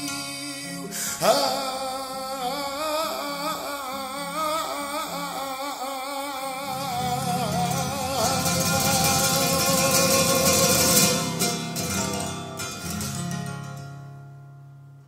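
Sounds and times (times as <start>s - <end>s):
man singing ornamented line: 0.0s - 13.3s
flamenco guitar chords: 0.0s - 15.0s.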